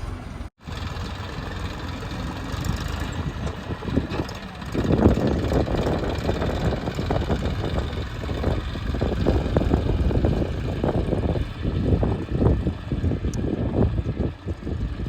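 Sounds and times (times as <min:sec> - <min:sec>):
diesel engine running roughly: 0:00.0 - 0:15.0.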